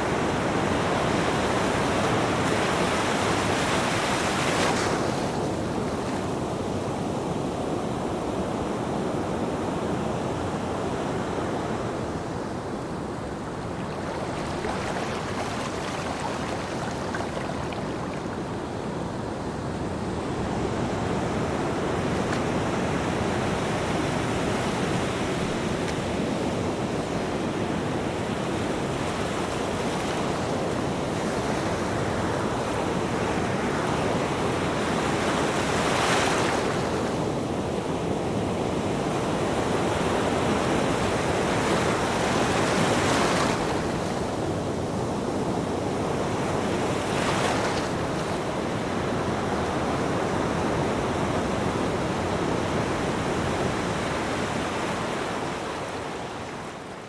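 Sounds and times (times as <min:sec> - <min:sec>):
ocean waves washing on beach: 0:00.0 - 0:57.0.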